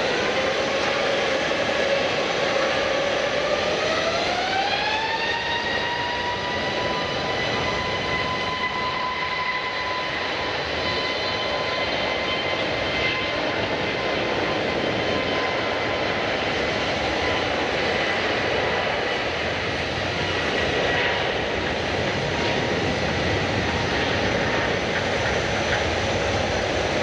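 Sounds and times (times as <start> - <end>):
jet engines spooling up: 0.0 - 27.0.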